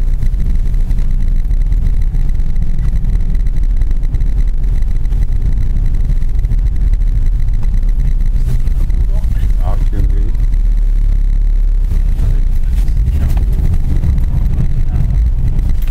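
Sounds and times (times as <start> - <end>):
car engine and tyres rumbling: 0.0 - 15.9.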